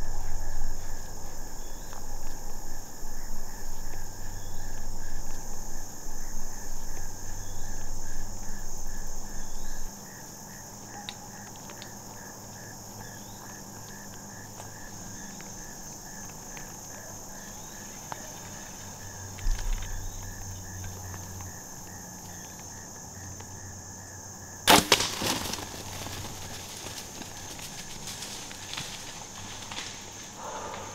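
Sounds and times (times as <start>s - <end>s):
crickets and insects chirping: 0.0s - 30.9s.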